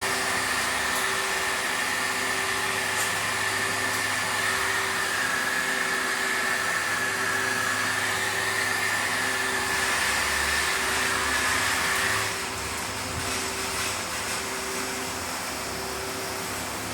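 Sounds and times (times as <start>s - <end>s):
whirring machinery with whine: 0.0s - 16.9s.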